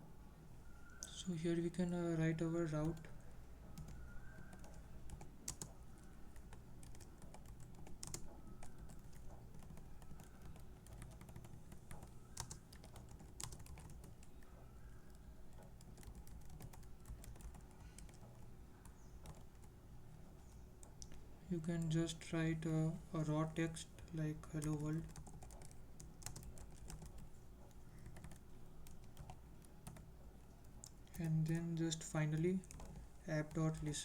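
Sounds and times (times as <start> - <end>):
faint steady hum: 0.0 - 34.0
computer keyboard typing: 1.8 - 19.8, 23.7 - 34.0.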